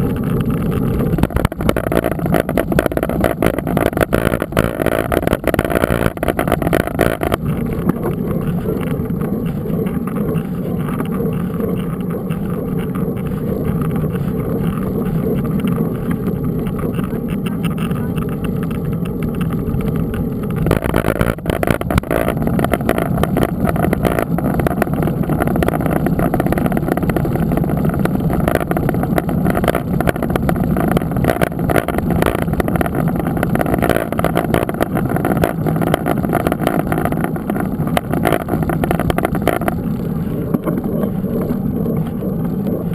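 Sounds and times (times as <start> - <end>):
bike rattling and knocking: 0.0 - 42.9.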